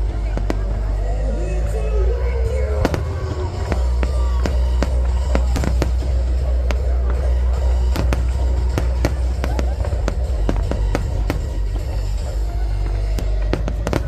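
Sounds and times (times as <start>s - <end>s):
fireworks bangs and crackles: 0.0s - 14.0s
music with heavy bass: 0.0s - 14.0s.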